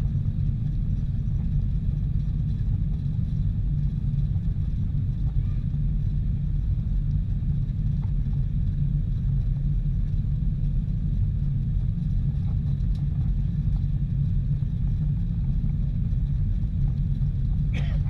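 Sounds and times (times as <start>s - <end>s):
airliner engine rumble: 0.0s - 18.0s.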